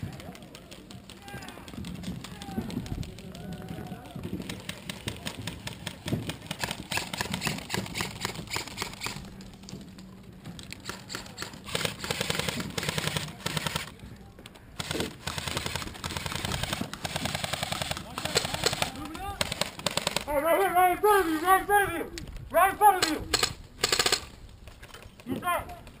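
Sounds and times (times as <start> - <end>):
airsoft rifles firing full-auto bursts: 0.0 - 9.6, 10.8 - 14.0, 14.8 - 20.7, 22.8 - 26.0.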